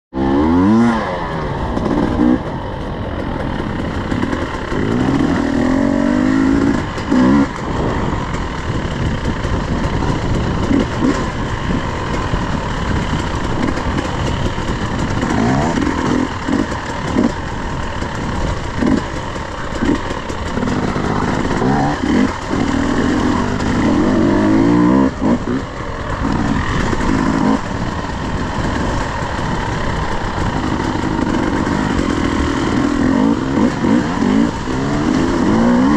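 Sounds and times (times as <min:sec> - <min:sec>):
dirt bike engine revving: 0:00.1 - 0:35.9.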